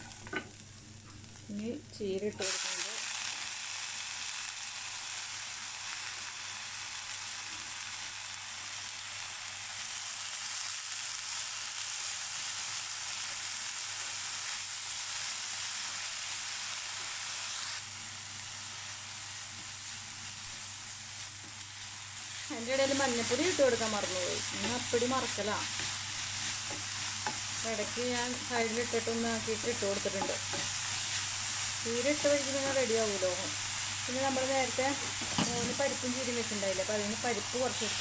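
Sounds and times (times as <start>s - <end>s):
leaves sizzling in hot oil: 0.0s - 38.0s.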